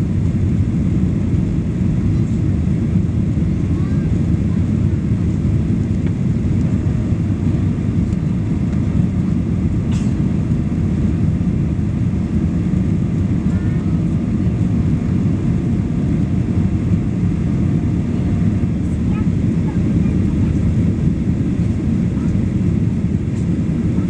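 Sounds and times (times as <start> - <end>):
airliner engine low rumble: 0.0 - 24.0.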